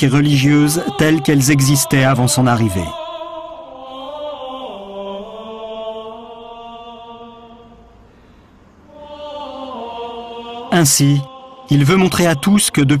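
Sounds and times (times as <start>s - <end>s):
slow chant-like voices: 0.0s - 13.0s.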